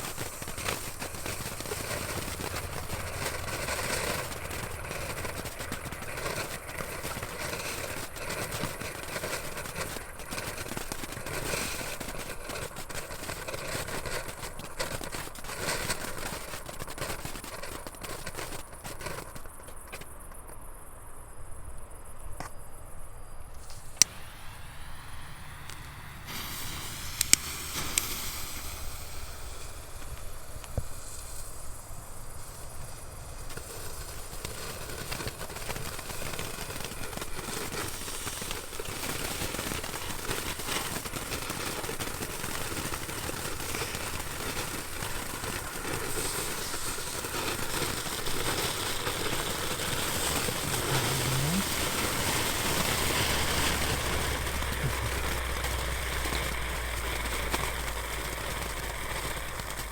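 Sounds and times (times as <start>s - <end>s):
sharp firework pops: 0.0s - 20.6s, 23.5s - 59.9s
firework hissing and crackling: 0.0s - 59.9s.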